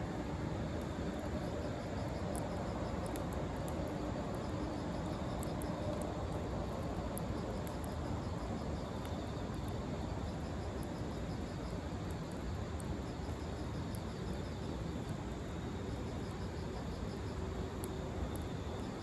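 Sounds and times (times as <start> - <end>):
small ticks: 0.7 - 19.0
insect chirps: 0.8 - 19.0.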